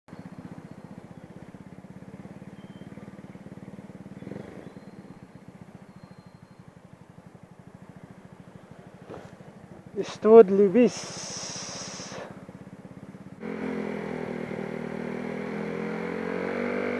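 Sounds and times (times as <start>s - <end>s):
motorcycle engine low throb: 0.1s - 16.9s.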